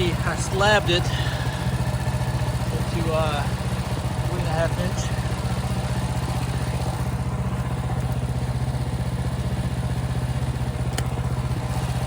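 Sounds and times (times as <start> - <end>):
gas engine idling: 0.0 - 12.0.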